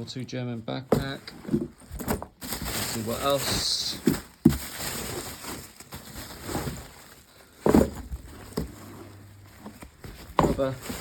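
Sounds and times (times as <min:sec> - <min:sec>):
things rustling and knocking in a box: 0:00.0 - 0:11.0.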